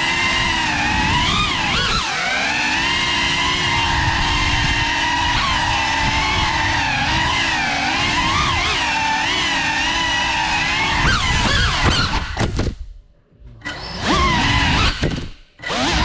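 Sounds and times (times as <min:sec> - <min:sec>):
drone motors whining: 0:00.0 - 0:12.7, 0:13.4 - 0:16.0.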